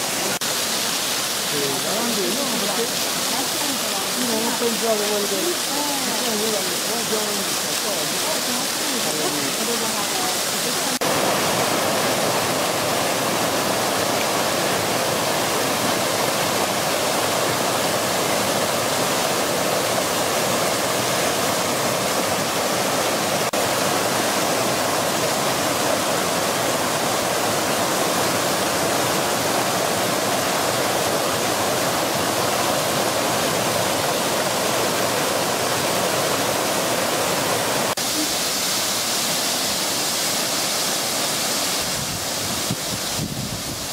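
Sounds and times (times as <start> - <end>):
fountain water splashing: 0.0 - 43.9.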